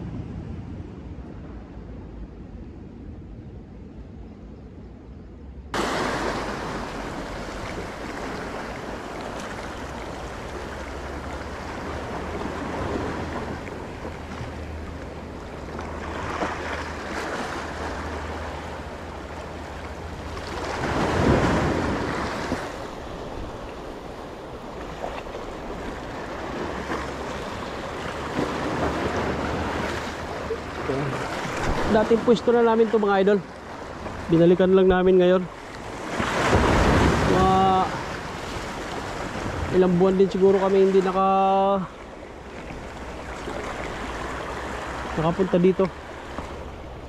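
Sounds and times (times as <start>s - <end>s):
wind rumbling on microphone: 0.0s - 47.0s
waves washing against rocks: 5.8s - 47.0s.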